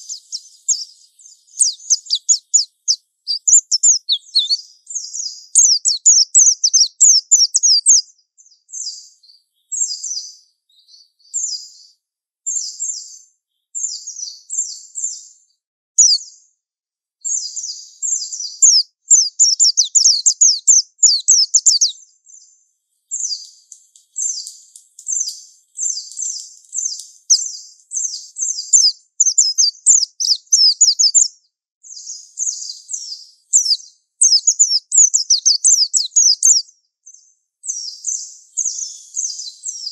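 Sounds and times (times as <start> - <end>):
bird singing high warbling song: 0.0 - 16.6, 17.2 - 39.9.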